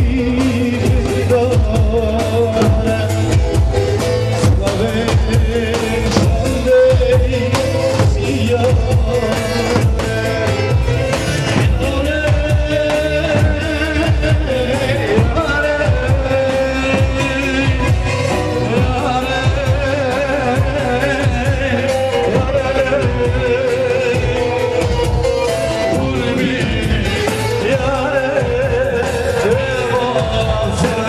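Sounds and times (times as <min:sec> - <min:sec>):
folk dance band music: 0:00.0 - 0:31.0
person singing: 0:00.0 - 0:31.0
steady drum beat: 0:00.0 - 0:31.0.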